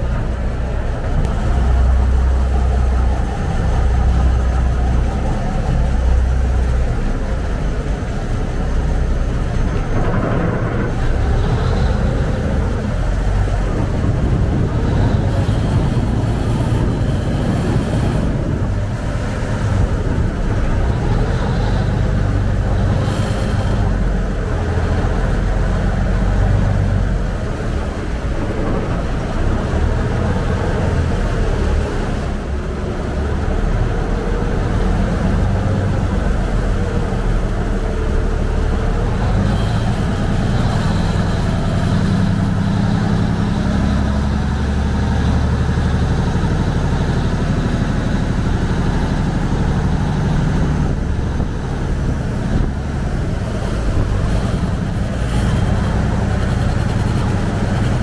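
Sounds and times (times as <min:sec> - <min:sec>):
boat engine rumbling: 0:00.0 - 0:58.0
water rushing past hull: 0:00.0 - 0:58.0.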